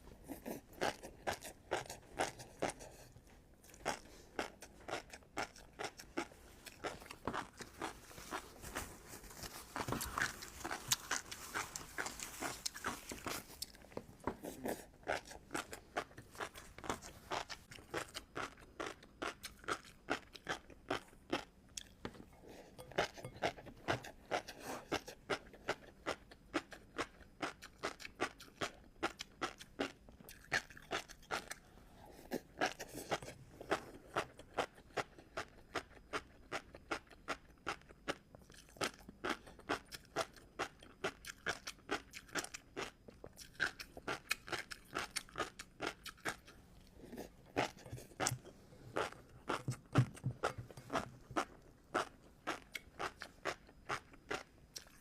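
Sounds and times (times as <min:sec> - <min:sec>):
person chewing crunchy food: 0:00.2 - 0:31.6, 0:32.2 - 0:55.0.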